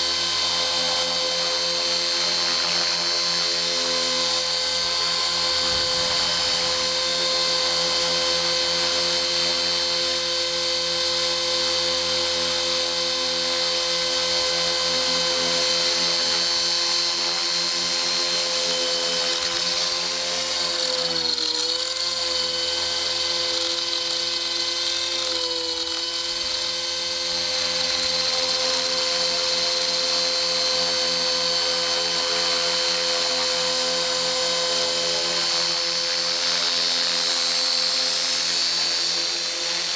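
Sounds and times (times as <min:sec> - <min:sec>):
electric motor whine: 0:00.0 - 0:39.9
helicopter rotor hum: 0:00.0 - 0:39.9.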